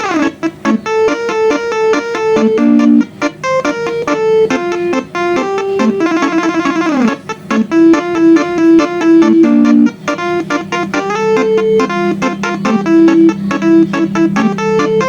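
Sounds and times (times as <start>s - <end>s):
bus horns playing a tune: 0.0s - 15.0s.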